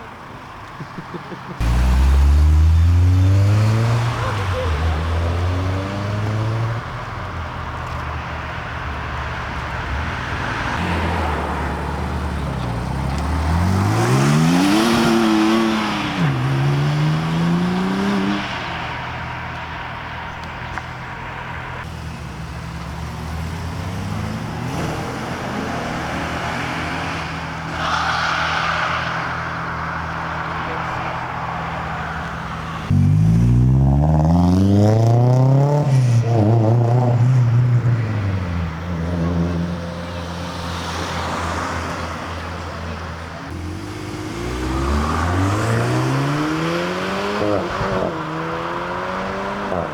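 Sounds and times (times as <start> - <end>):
car engines idling: 0.0 - 34.0, 36.0 - 49.9
car pulling away: 0.2 - 49.9
car engine revving: 1.5 - 49.9.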